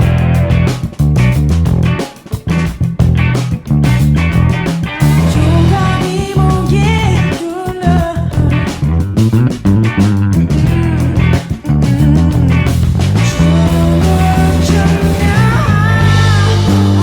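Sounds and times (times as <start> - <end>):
bass guitar notes: 0.0 - 17.0
rock song with electric guitar: 0.0 - 17.0.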